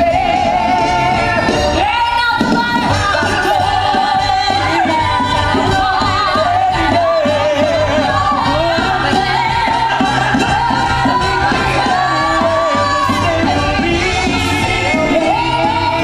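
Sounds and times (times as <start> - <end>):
band accompaniment: 0.0 - 16.0
person singing with vibrato: 0.0 - 16.0.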